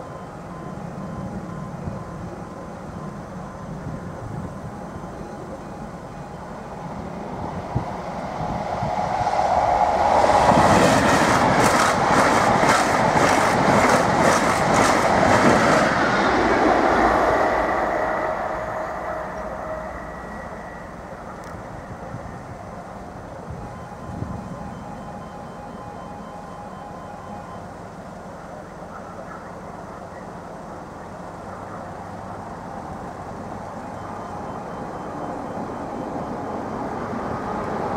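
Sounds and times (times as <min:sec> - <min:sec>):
passenger train passing: 0:00.0 - 0:37.9.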